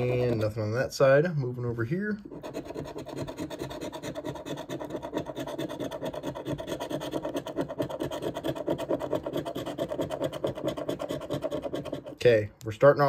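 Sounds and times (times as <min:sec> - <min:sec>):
coin scratching a lottery ticket: 0:00.0 - 0:00.7, 0:02.2 - 0:12.4.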